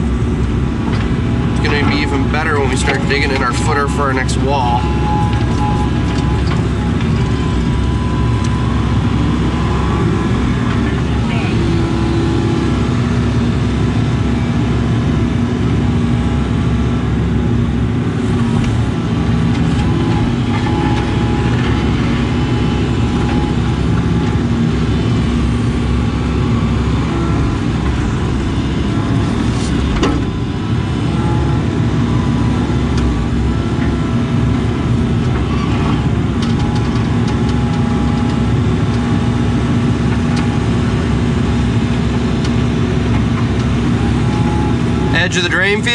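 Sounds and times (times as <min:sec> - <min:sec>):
diesel engine running: 0:00.0 - 0:45.9
hydraulics whining: 0:00.0 - 0:45.9.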